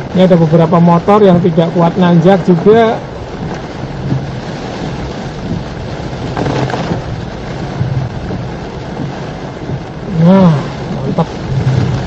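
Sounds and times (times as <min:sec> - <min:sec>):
heavy rain on a car: 0:00.0 - 0:12.0
tyre noise on wet road: 0:00.0 - 0:12.0.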